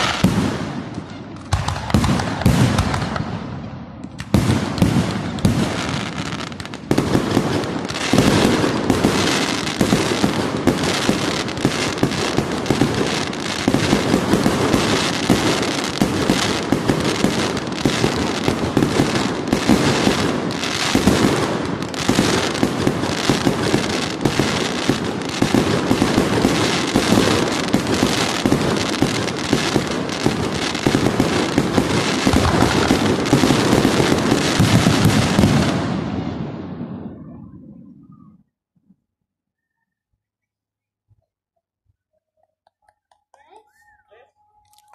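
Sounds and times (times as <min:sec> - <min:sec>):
fireworks bursting: 0:00.0 - 0:38.3.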